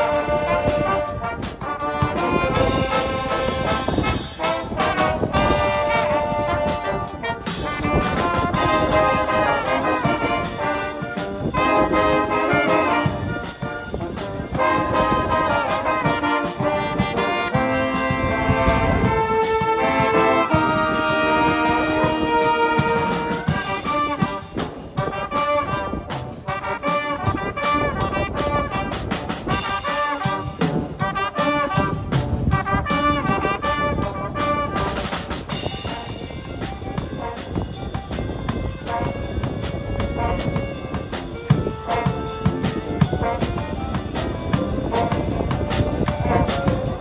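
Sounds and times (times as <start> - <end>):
brass band playing: 0.0 - 47.0
percussion strokes: 0.0 - 47.0.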